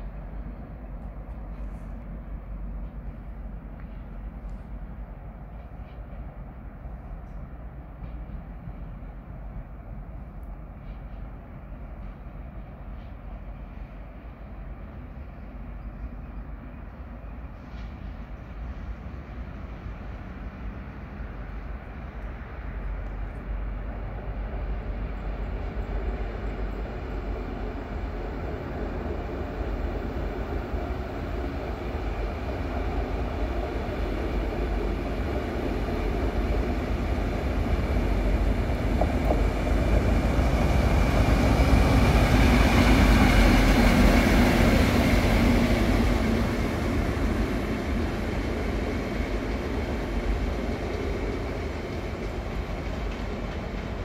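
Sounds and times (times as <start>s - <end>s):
locomotive engine hum: 0.0s - 54.0s
train rumbling past: 0.0s - 54.0s.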